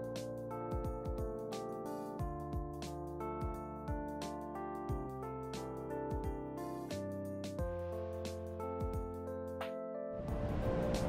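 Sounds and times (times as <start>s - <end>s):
soft pop music with beat: 0.0s - 11.0s.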